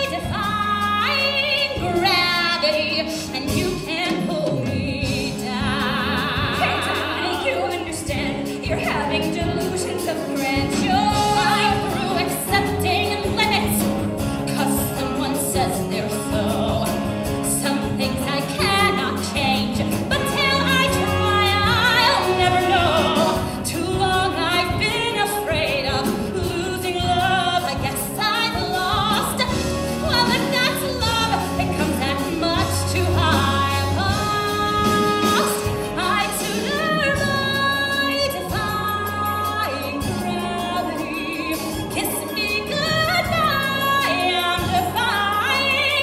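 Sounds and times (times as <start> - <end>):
orchestra playing: 0.0 - 46.0
woman singing: 0.0 - 46.0.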